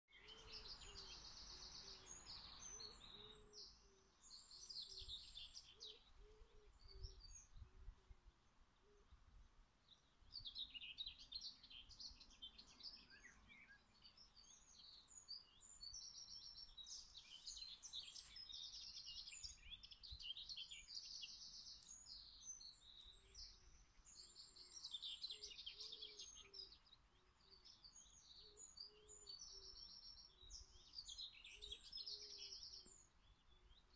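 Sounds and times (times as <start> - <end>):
songbirds chirping: 0.0 - 33.9.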